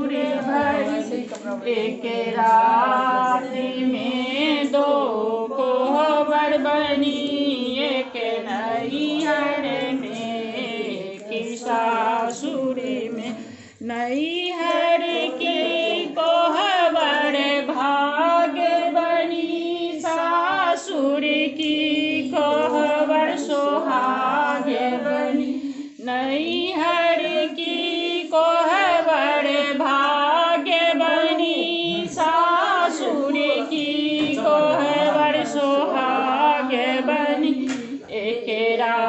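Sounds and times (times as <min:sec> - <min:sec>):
women singing together: 0:00.0 - 0:39.0.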